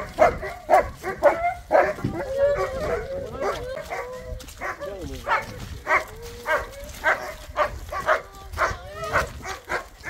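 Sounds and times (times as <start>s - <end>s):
dog barking: 0.0s - 10.0s.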